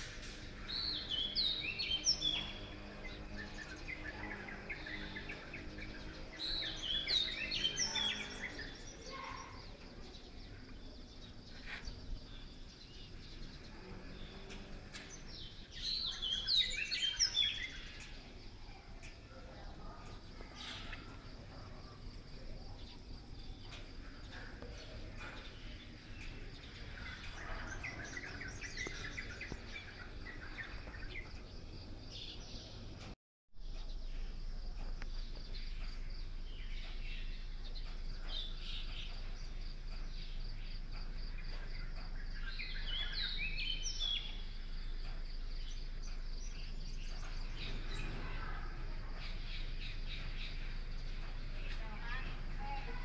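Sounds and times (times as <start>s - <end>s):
bird chirps and calls: 0.0s - 53.0s.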